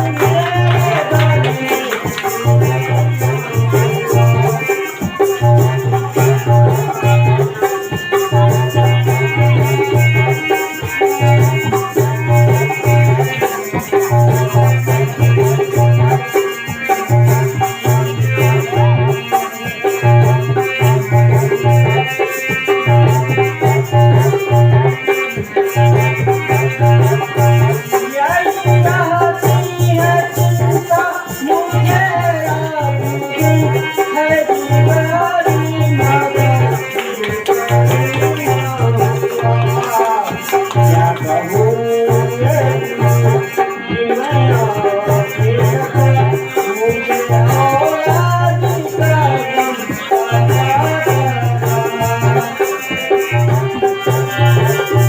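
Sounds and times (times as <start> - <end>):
shaker rattling fast rhythm: 0.0 - 55.0
wavering melody: 0.0 - 55.0.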